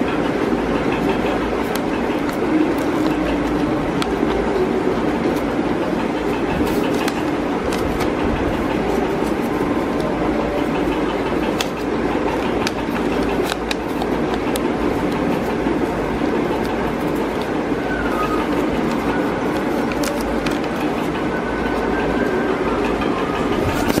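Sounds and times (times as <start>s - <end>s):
steady loud rumbling: 0.0s - 24.0s
paper rustling and crackling: 0.8s - 22.2s, 23.5s - 24.0s.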